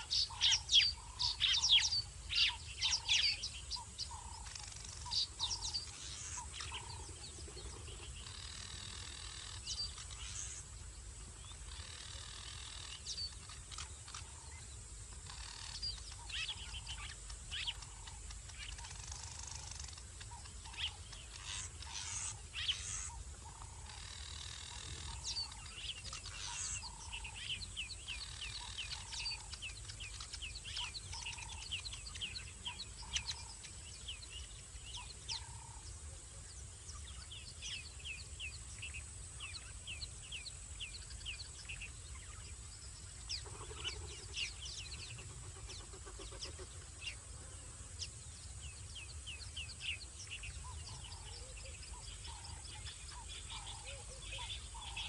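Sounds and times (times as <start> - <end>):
wild birds chirping: 0.0 - 55.0.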